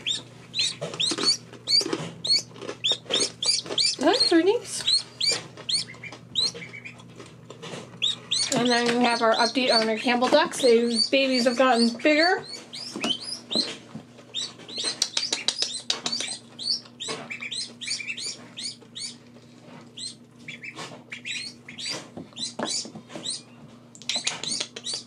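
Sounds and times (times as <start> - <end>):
ducklings peeping: 0.0 - 25.0.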